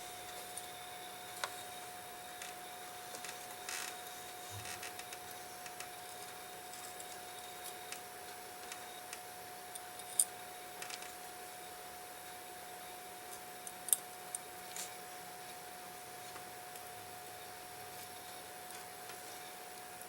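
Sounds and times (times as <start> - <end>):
faint whine: 0.0 - 20.0.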